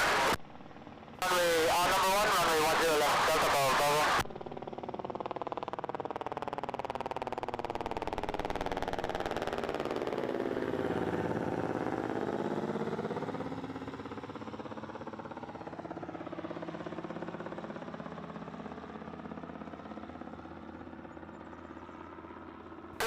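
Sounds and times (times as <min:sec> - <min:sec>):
aircraft engine droning: 0:00.0 - 0:23.0.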